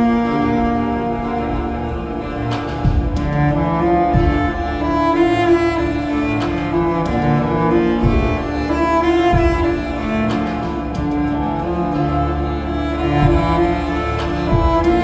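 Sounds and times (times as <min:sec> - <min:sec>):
bowed cello sustained notes: 0:00.0 - 0:15.0.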